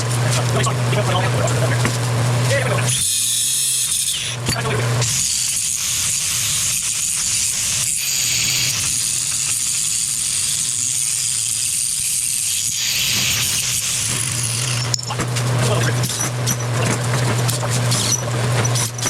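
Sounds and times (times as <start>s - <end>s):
angle grinder grinding steel: 0.0s - 19.0s.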